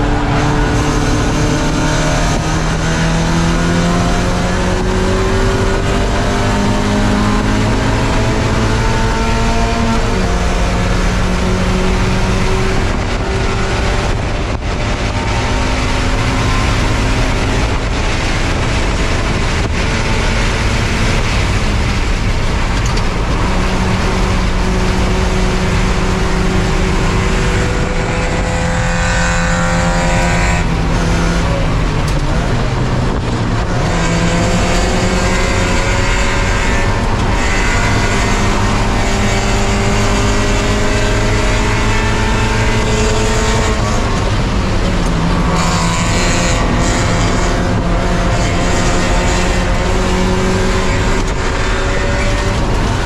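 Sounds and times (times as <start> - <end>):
race car engine revving: 0.0 - 53.0
road noise: 0.0 - 53.0
wind noise: 0.0 - 53.0.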